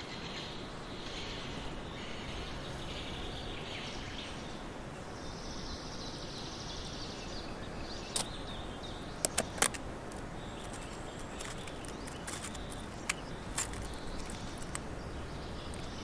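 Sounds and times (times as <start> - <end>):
faint high chirping: 0.0 - 16.0
outdoor background noise: 0.0 - 16.0.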